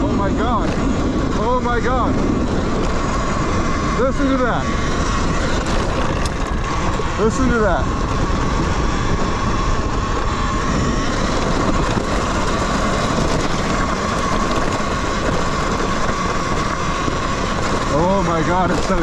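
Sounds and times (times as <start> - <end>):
electric motor whine: 0.0 - 19.0
tyre noise on trail: 0.0 - 19.0
wind: 0.0 - 19.0.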